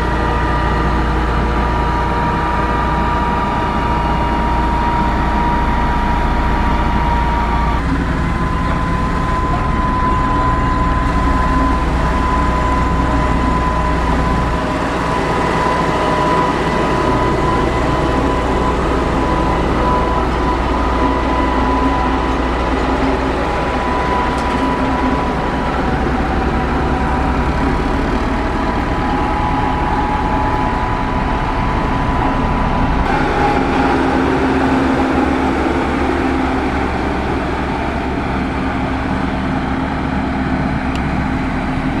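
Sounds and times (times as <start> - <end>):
diesel engine running under load: 0.0 - 42.0
whining tones: 0.0 - 42.0.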